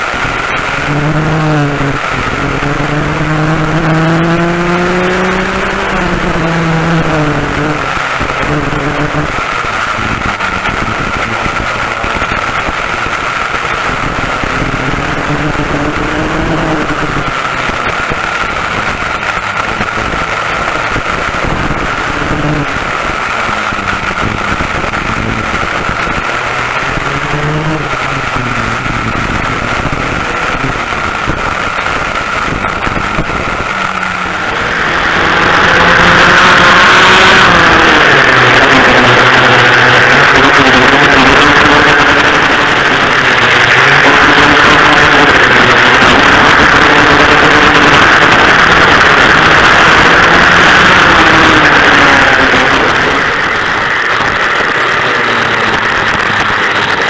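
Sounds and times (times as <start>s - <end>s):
air rushing over microphone: 0.0s - 57.0s
racing kart engines revving: 0.0s - 57.0s.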